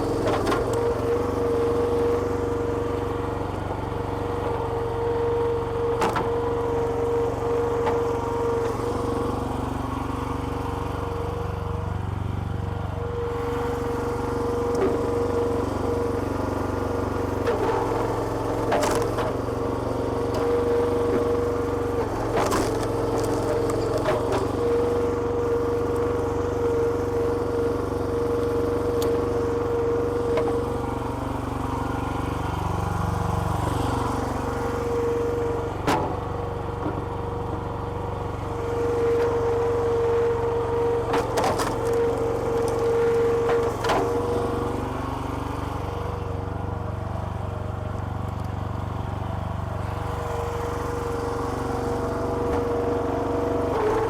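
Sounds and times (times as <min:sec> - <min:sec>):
small petrol engine running: 0:00.0 - 0:54.0.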